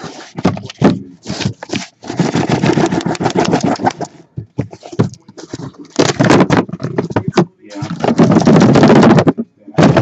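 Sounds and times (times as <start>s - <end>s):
cardboard scraping and knocking: 0.0s - 10.0s.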